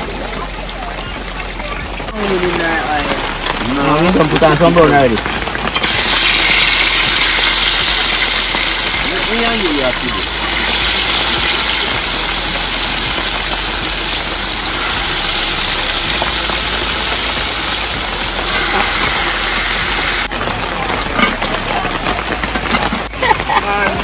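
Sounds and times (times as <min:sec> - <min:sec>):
chicken sizzling in a pot: 0:00.0 - 0:20.4.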